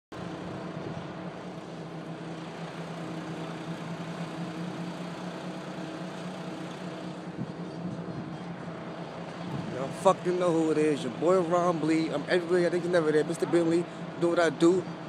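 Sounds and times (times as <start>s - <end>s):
vehicle engine idling: 0.1s - 15.0s.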